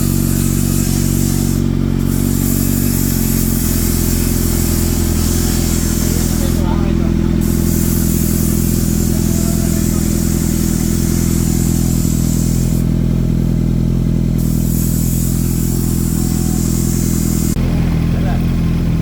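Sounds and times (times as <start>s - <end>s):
motorcycle engine idling loudly: 0.0s - 19.0s.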